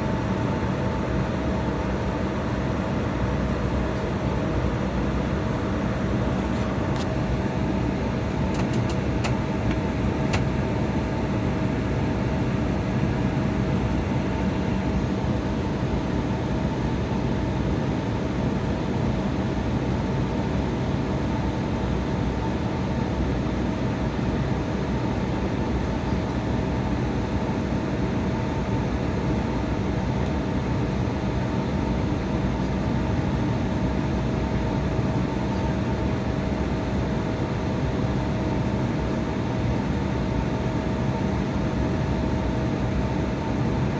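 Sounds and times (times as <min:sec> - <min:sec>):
jet engine cabin drone: 0:00.0 - 0:43.9.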